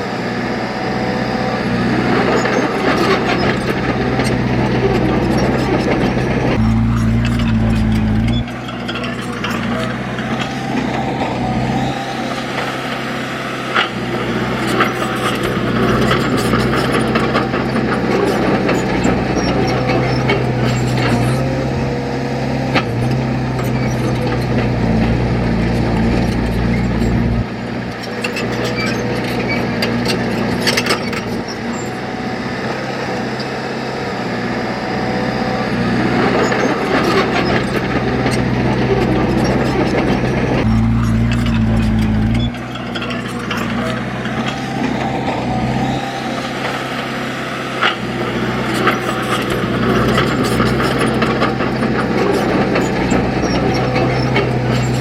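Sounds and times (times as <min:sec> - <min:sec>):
heavy diesel machine engine: 0:00.0 - 0:55.0.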